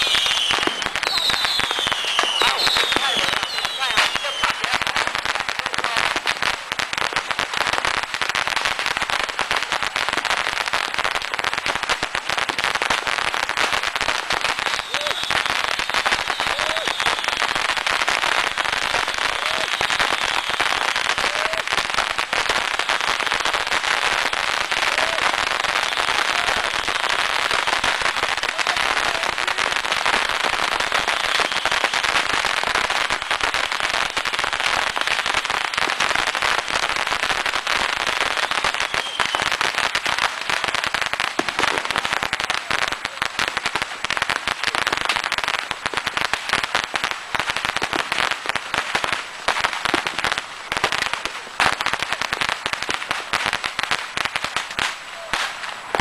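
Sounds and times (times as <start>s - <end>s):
fireworks crackle and bangs: 0.0s - 56.0s.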